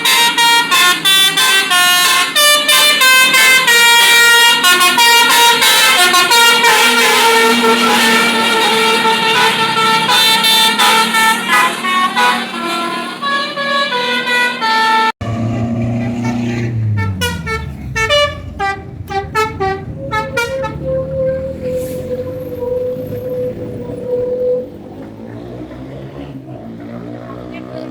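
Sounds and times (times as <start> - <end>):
multi-tone bus horn melody: 0.0 - 25.9
bus engine running: 0.0 - 27.9.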